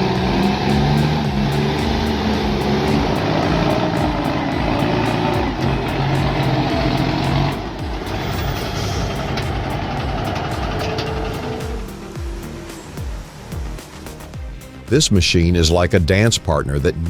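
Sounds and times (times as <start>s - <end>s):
heavy truck engine running: 0.0s - 14.8s
background music: 0.0s - 17.0s.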